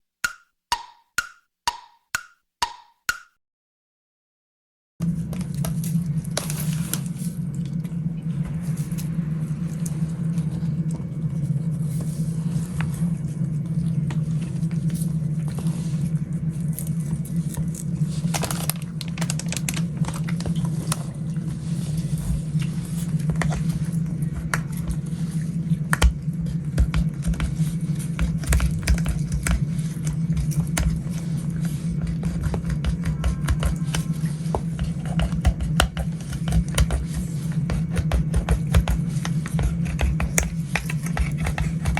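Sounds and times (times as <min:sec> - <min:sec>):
cats chewing and licking: 0:05.0 - 0:41.9
steady low hum: 0:05.0 - 0:41.9.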